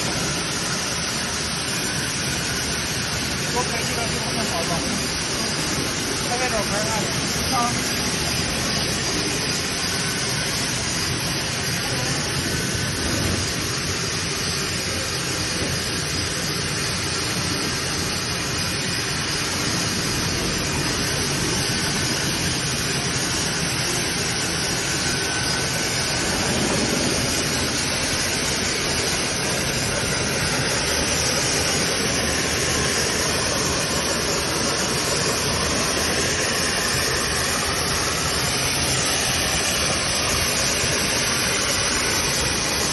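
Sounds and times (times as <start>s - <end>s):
extrusion machine hum and hiss: 0.0s - 42.9s.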